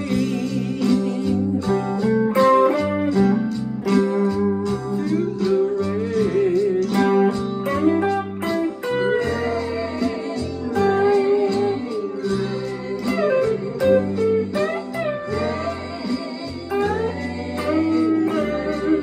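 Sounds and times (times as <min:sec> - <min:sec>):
bass line: 0:00.0 - 0:19.0
electric guitar lead: 0:00.0 - 0:19.0.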